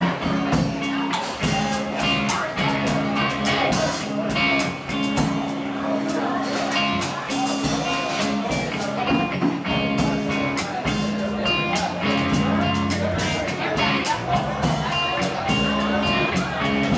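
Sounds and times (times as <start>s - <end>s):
live blues-rock band playing: 0.0s - 16.9s.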